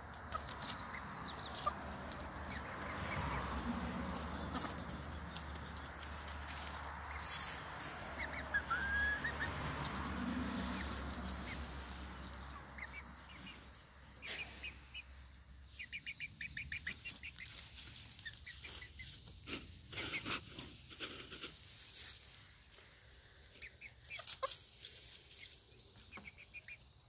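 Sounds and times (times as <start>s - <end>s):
young hens chirping: 0.0s - 27.0s
rustling of leaves and straw: 0.2s - 27.0s.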